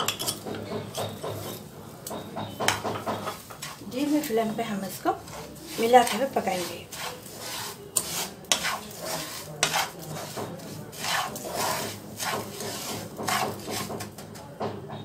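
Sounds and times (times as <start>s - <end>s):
wooden spatula scraping sugar in pan: 0.4s - 1.7s, 3.0s - 14.4s.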